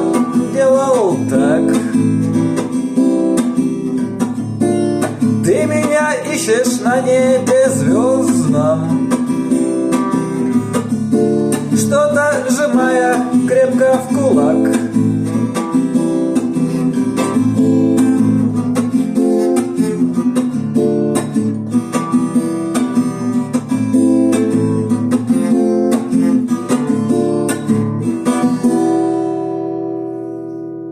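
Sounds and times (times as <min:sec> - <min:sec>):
acoustic guitar strumming: 0:00.0 - 0:30.9.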